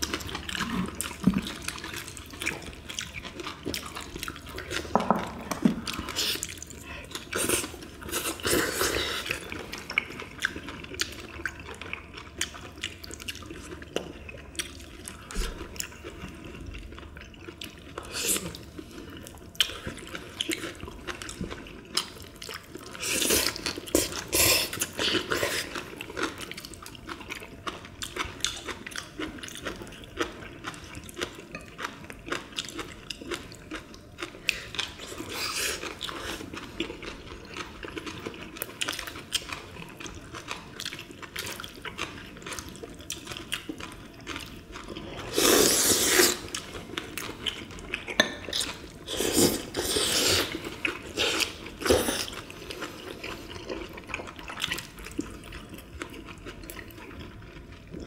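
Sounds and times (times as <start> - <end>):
wet chewing and slurping: 0.0 - 58.0.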